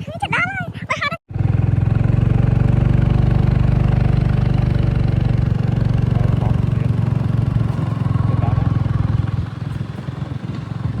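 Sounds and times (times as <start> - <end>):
small engine idling: 1.3 - 11.0.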